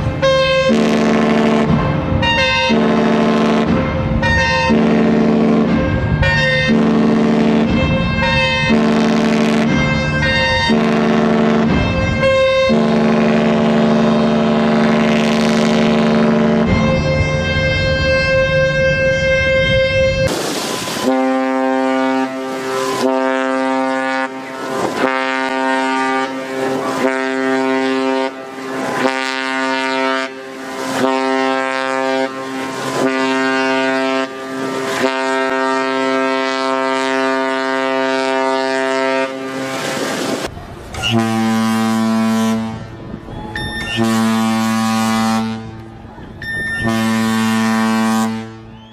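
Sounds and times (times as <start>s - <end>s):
lower-pitched horn blast: 0.0s - 48.9s
ship's horn blasts: 0.0s - 48.9s.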